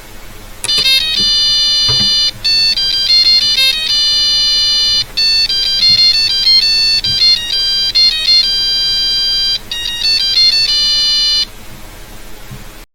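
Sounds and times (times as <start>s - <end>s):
electronic beeping ringtone melody: 0.6s - 11.5s.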